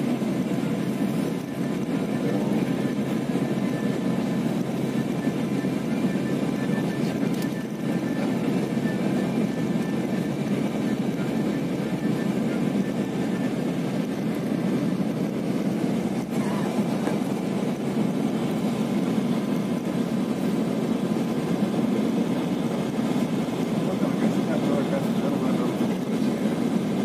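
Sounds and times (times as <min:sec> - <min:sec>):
bus engine and tyre rumble: 0:00.0 - 0:27.0.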